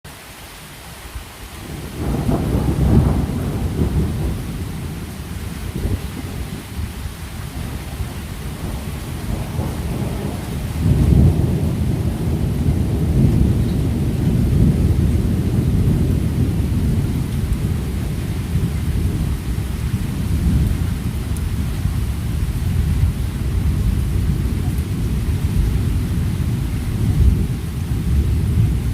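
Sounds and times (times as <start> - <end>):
thunder rumbling: 1.6 - 28.9.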